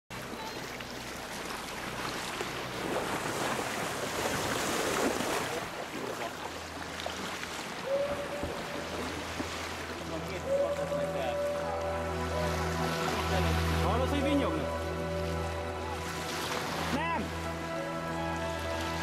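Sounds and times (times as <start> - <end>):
water splashing along boat hull: 0.1 - 17.0.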